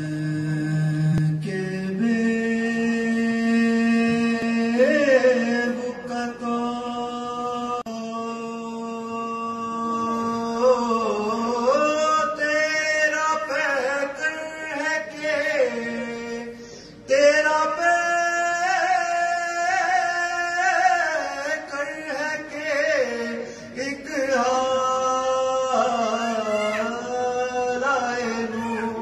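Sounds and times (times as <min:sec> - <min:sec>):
man chanting melodically: 0:00.0 - 0:29.0.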